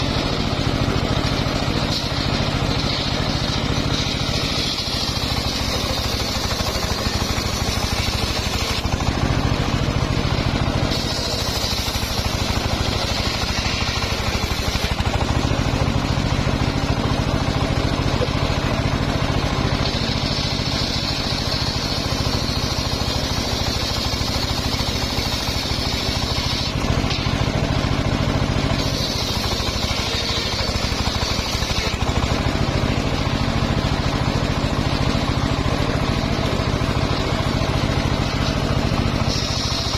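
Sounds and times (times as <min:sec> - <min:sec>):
circular sawmill running: 0:00.0 - 0:39.9
saw blade cutting whine: 0:00.0 - 0:39.9.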